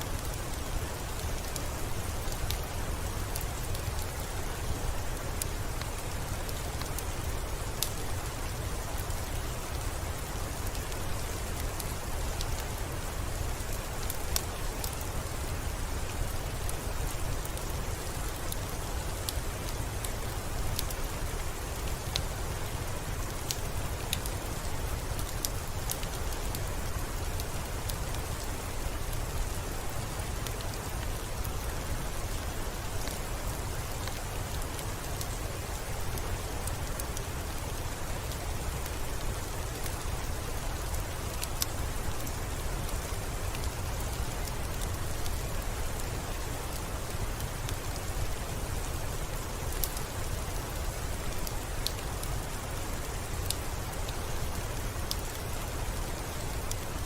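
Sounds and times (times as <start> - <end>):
rain on a window: 0.0 - 57.0.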